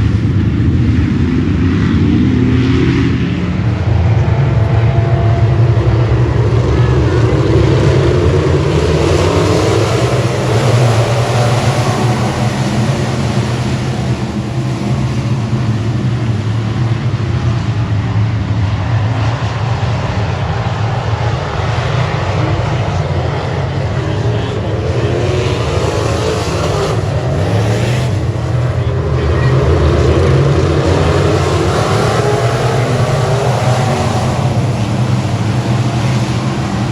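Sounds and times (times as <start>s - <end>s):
race car engine drone: 0.0s - 36.9s
wind and track noise: 0.0s - 36.9s.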